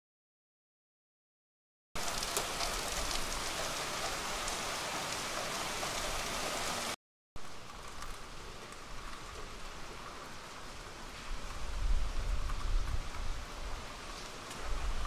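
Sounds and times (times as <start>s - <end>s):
heavy rain on pavement: 2.0s - 15.0s.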